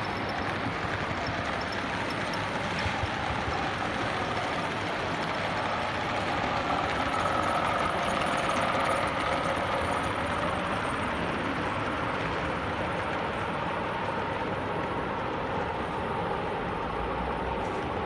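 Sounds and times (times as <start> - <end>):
model trains running with whine: 0.0 - 18.0.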